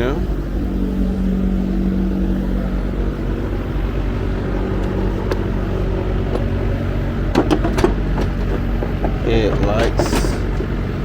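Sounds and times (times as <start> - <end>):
low hum with rumble: 0.0 - 11.0.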